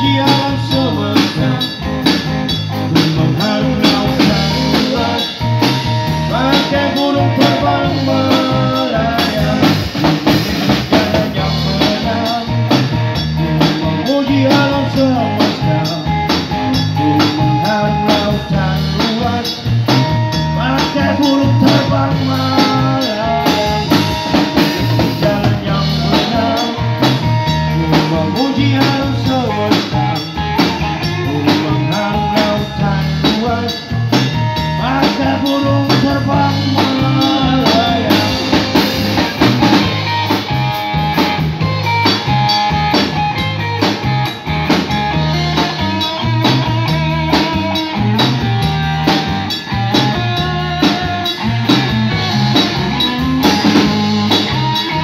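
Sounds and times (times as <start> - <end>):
drum kit beat: 0.0 - 55.0
electric bass: 0.0 - 55.0
electric guitar: 0.0 - 55.0.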